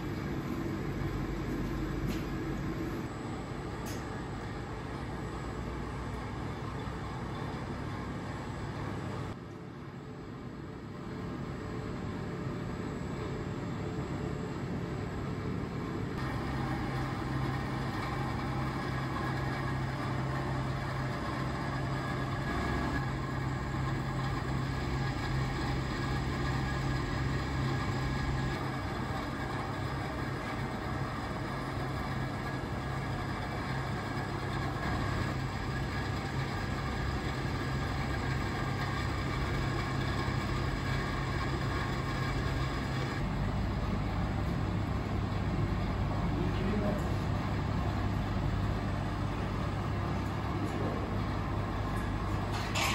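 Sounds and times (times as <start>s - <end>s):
machinery humming: 0.0s - 52.9s.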